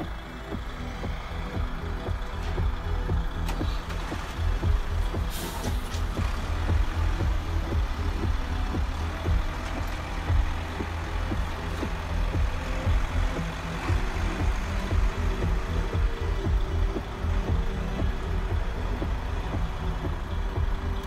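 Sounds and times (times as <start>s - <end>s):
diesel engine sound from speaker: 0.0s - 21.0s.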